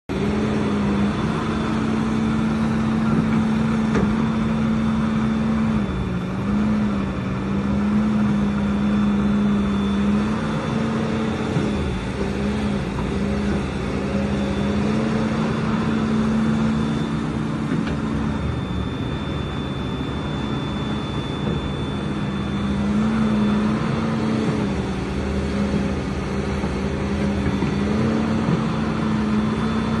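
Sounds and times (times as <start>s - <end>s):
excavator engine running: 0.1s - 30.0s
faint high steady whine: 0.2s - 30.0s.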